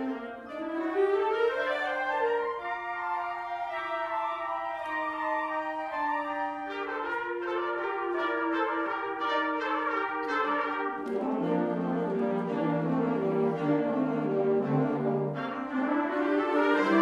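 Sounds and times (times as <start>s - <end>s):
wind band playing: 0.0s - 17.0s.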